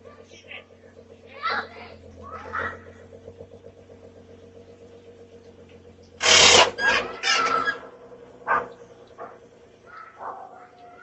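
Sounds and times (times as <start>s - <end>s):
loud noisy engine bursts: 0.0s - 11.0s
vehicle engine running: 0.0s - 11.0s.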